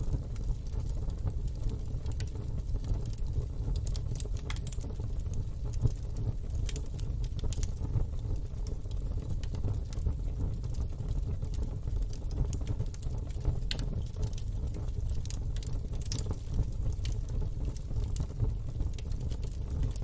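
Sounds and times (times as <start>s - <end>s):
low rumble of fire: 0.0s - 20.0s
wood fire crackling: 0.0s - 20.0s.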